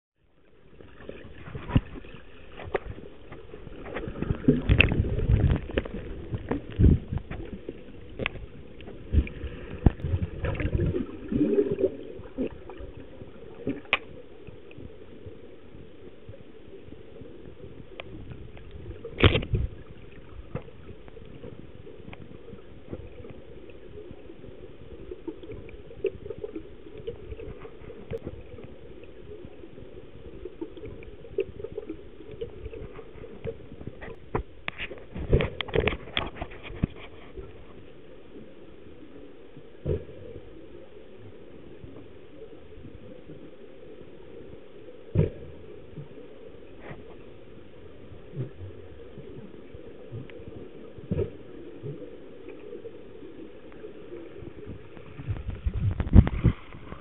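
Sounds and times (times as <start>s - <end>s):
underwater wash of water: 0.4s - 57.0s.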